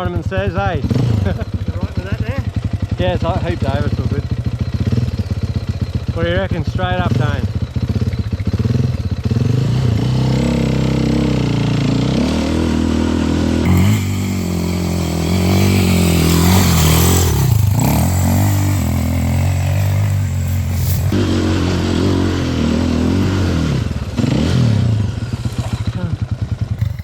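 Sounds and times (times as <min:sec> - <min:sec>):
dirt bike engine revving: 0:00.8 - 0:27.0.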